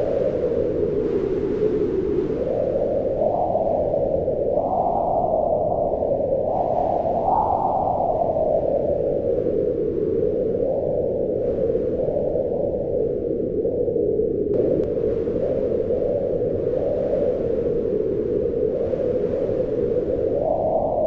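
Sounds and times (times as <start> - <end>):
howling wind: 0.0 - 21.0.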